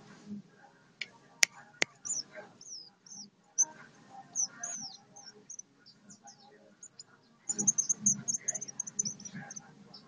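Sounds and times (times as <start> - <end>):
bird singing high thin chirps: 1.9 - 10.0.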